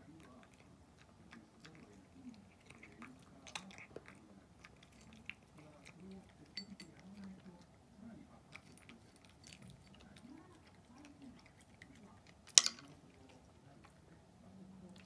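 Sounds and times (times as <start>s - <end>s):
cat chewing dry kibble: 0.0s - 15.0s.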